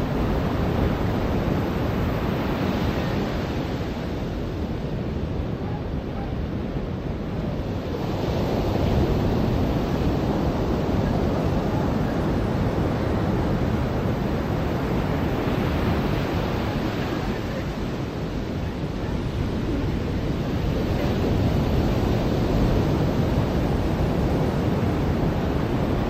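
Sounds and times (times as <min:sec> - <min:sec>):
ocean surf washing on beach: 0:00.0 - 0:26.0.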